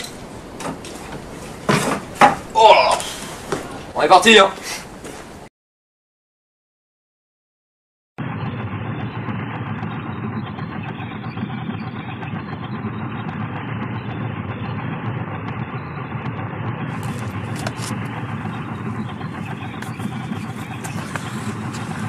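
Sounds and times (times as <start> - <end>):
heavy vehicle engine drone: 0.0 - 4.1, 8.2 - 22.0.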